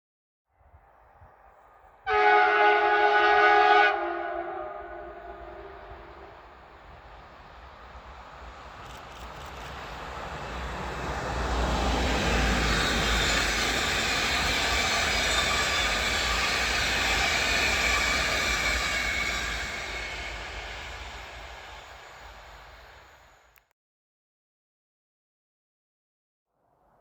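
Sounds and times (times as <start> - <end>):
train passing: 0.6 - 23.5.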